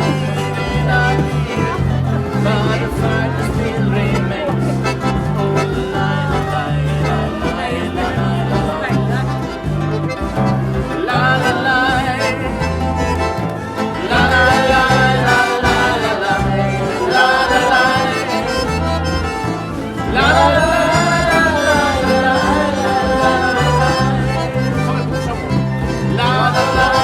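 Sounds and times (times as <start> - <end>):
bass stepping between low notes: 0.0 - 27.0
live band music: 0.0 - 27.0.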